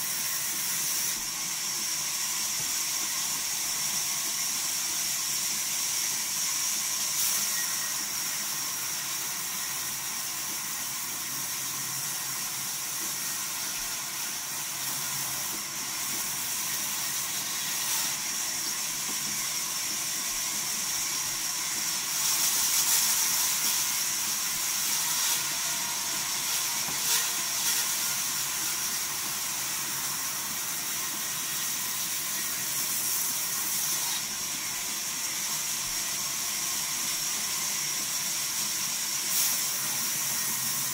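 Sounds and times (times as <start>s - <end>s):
band saw cutting wood: 7.2s - 37.9s, 38.5s - 40.9s.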